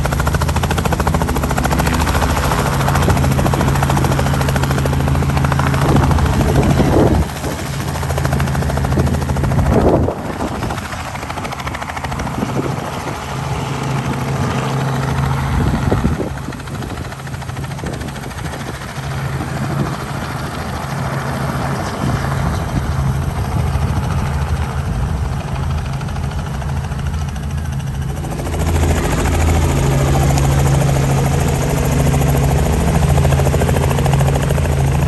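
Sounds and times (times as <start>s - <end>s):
helicopter piston engine running: 0.0s - 35.0s
helicopter rotor chopping: 0.0s - 35.0s.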